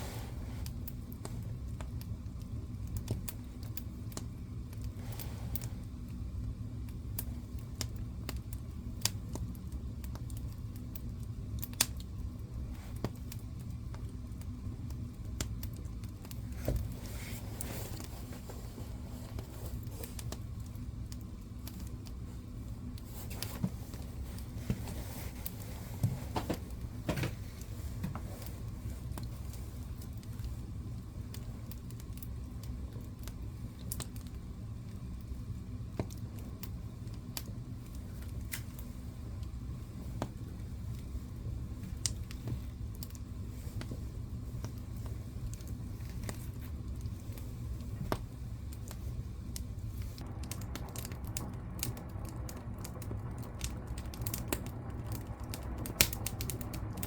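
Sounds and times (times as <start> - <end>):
fire crackling and popping: 0.0 - 57.0
low fire rumble: 0.0 - 57.0.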